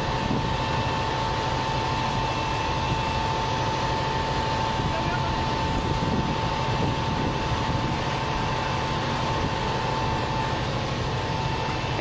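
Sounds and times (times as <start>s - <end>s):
thin steady whine: 0.0s - 12.0s.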